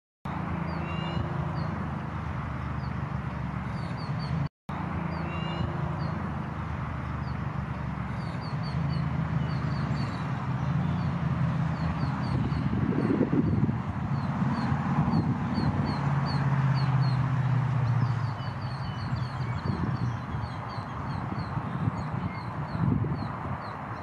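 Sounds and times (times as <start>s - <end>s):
birds chirping: 0.3s - 24.0s.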